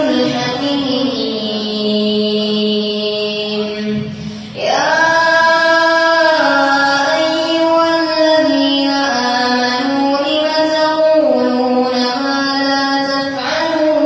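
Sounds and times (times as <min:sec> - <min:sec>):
boy chanting melodically: 0:00.0 - 0:14.0.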